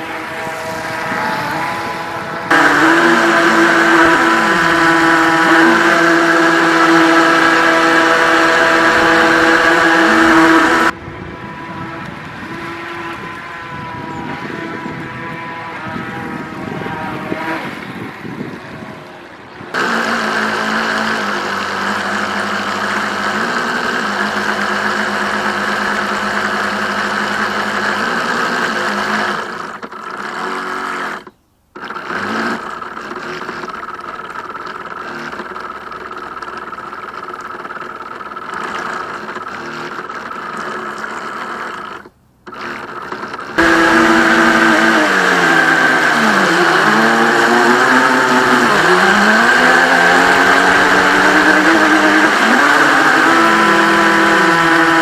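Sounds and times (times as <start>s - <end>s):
model boat motor running: 0.0s - 55.0s.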